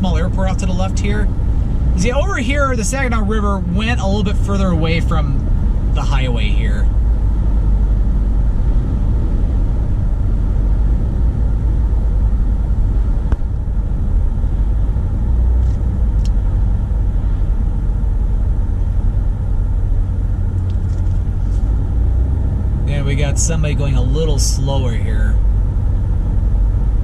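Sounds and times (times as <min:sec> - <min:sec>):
car driving on highway: 0:00.0 - 0:27.0.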